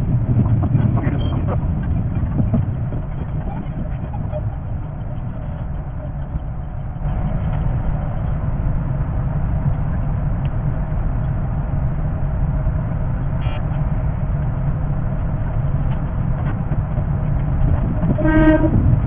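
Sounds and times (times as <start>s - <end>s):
electric train rumble: 0.0s - 19.0s.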